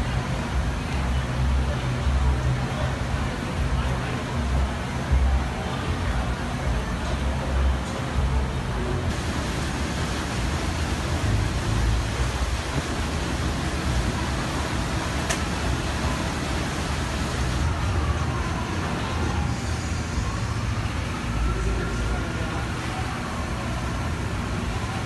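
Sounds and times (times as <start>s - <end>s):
paddle wheel churning water: 0.0s - 25.0s.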